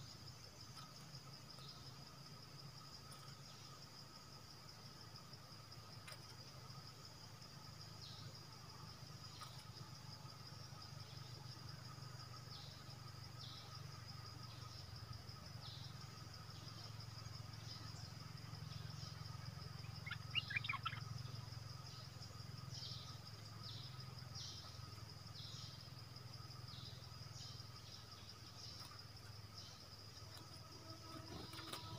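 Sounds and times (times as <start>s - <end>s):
high insect drone: 0.0s - 31.9s.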